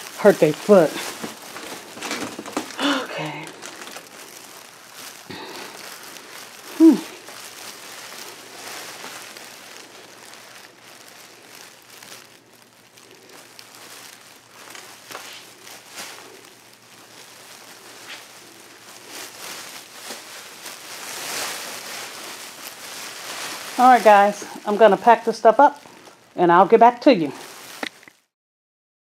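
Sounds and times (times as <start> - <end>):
rustling of boxes and plastic bags: 0.0 - 28.3.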